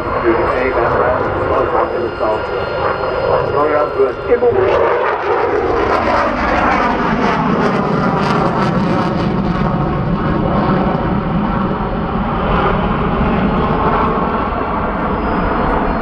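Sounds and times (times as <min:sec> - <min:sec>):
jet engines in flight: 0:00.0 - 0:16.0.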